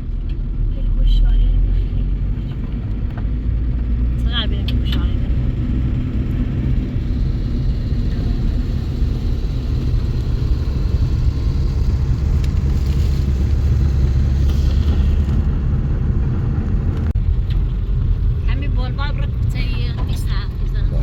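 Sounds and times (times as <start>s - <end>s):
motor vehicle rumble: 0.0s - 21.0s.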